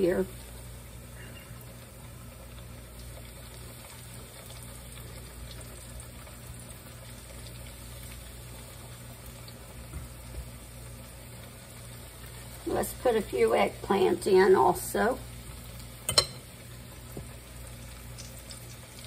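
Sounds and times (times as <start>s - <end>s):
food sizzling in hot oil: 0.0s - 19.0s
low steady hum: 0.0s - 19.0s.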